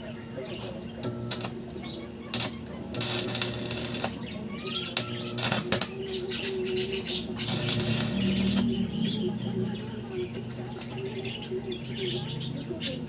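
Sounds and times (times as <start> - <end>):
steady low hum: 0.0 - 12.8
pet birds chirping: 0.0 - 13.0.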